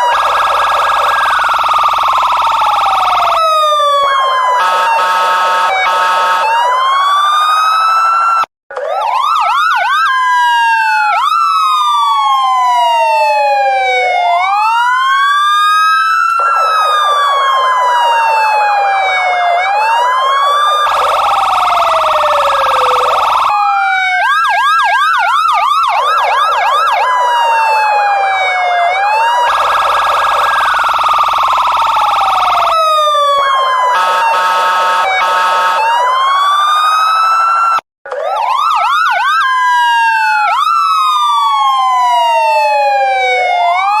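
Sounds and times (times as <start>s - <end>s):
harsh buzzing siren blasts: 0.0s - 44.0s
police siren wailing and yelping: 0.0s - 44.0s.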